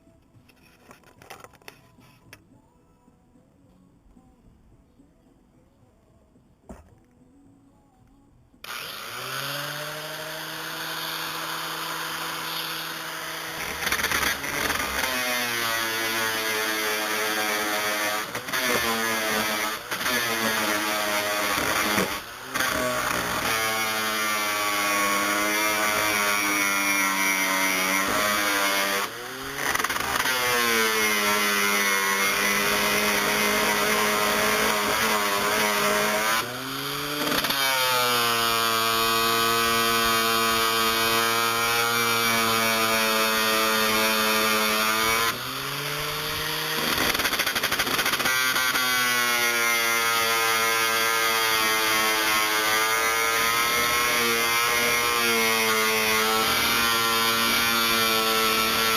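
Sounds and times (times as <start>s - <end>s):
grinder motor whine: 8.6s - 58.9s.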